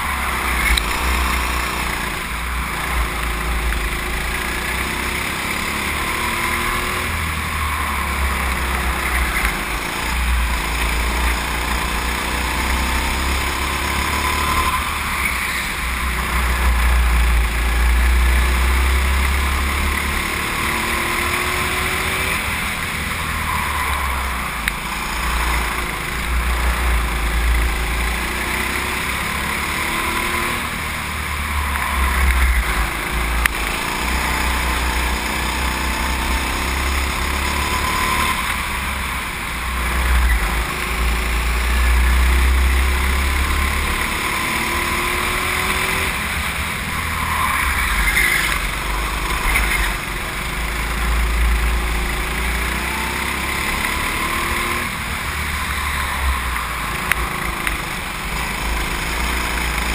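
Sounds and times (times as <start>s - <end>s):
go-kart engine running hard: 0.0s - 59.9s.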